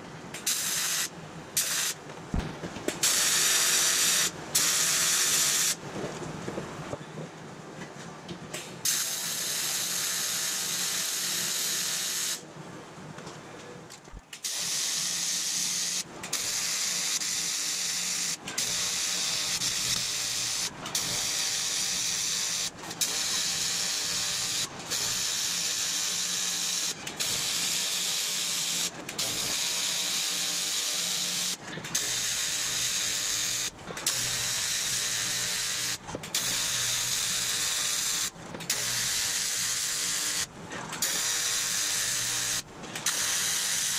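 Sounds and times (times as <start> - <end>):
welding arc buzzing hiss: 0.4 - 5.8, 8.8 - 12.4, 14.1 - 43.9.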